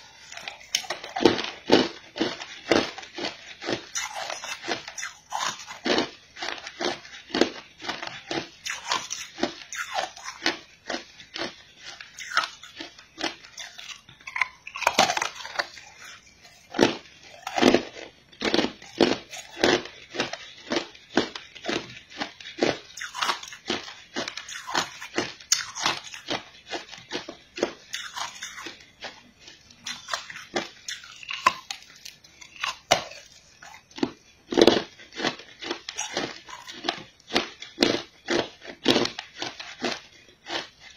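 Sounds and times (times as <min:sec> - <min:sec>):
ice crunching as it is chewed: 0:00.0 - 0:40.9.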